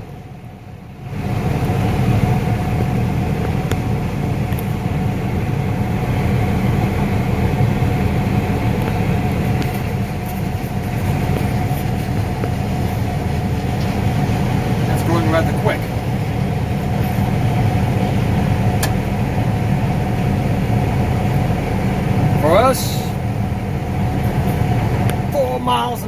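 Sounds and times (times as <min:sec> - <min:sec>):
steady whine: 0:00.0 - 0:26.0
tractor engine rumbling: 0:00.0 - 0:26.0.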